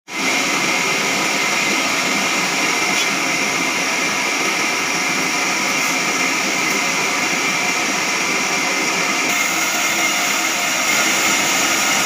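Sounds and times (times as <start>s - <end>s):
band sawmill hissing whine: 0.1s - 12.0s.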